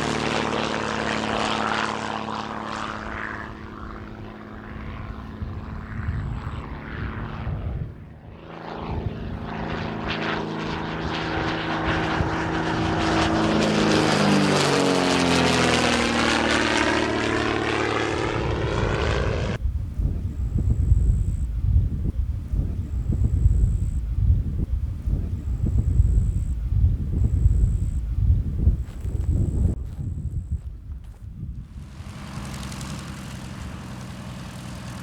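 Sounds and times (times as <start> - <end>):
propeller plane passing: 0.0 - 35.0.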